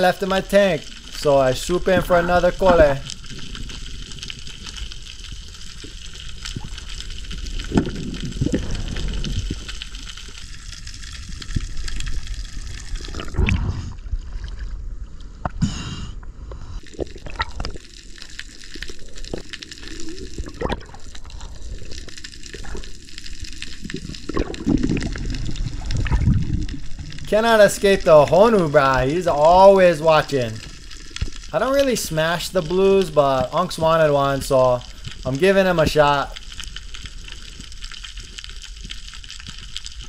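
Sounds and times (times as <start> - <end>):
underwater sloshing and gurgling: 0.6 - 40.0.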